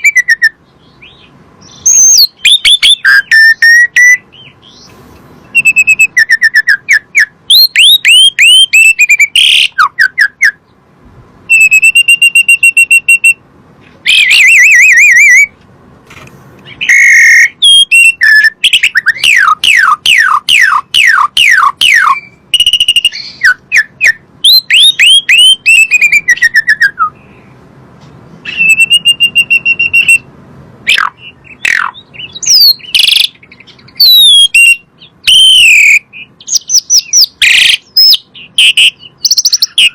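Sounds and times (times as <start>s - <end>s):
starling singing whistled phrases: 0.0s - 10.7s, 11.5s - 13.4s, 14.0s - 15.6s, 16.6s - 27.3s, 28.4s - 30.3s, 30.9s - 39.9s.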